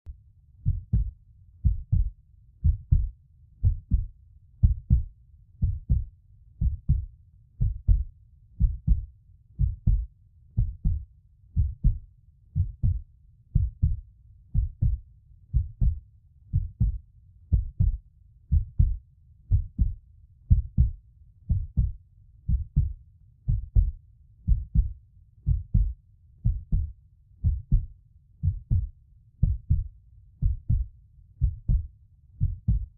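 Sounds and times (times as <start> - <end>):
heartbeat double thump: 0.6 - 9.0, 9.6 - 11.0, 11.6 - 12.0, 12.6 - 13.0, 13.6 - 14.0, 14.6 - 15.0, 15.6 - 16.0, 16.6 - 24.9, 25.5 - 32.9.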